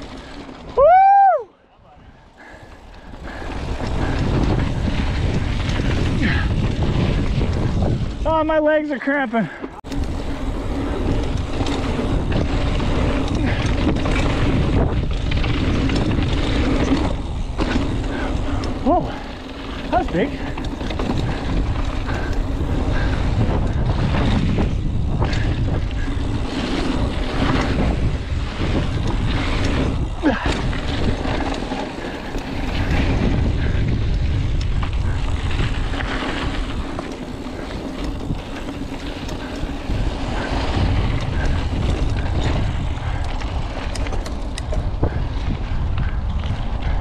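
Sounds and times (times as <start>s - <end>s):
bike rattling and clicking: 0.0s - 47.0s
bike tyres rolling on gravel: 0.0s - 47.0s
wind on microphone: 0.7s - 8.4s, 9.8s - 47.0s.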